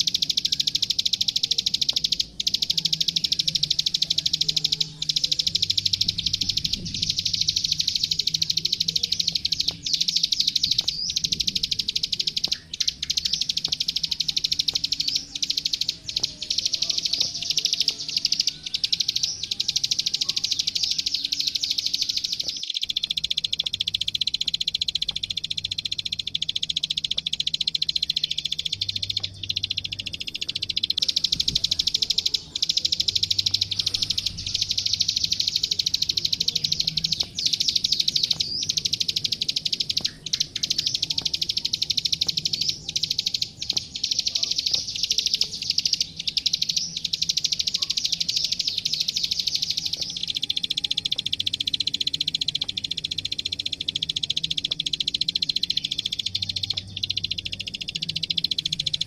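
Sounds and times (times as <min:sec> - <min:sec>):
bird's rapid clicking trill: 0:00.0 - 0:59.0.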